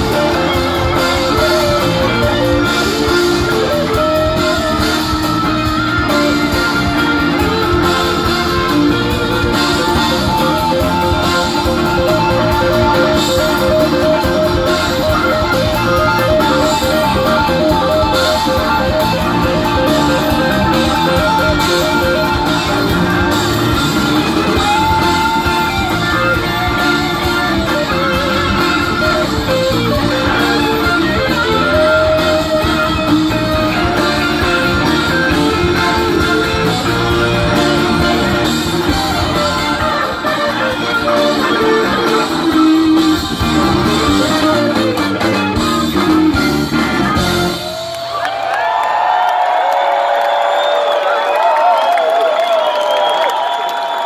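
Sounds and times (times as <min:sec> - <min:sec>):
electric guitars soloing: 0:00.0 - 0:49.9
live rock band playing: 0:00.0 - 0:54.0.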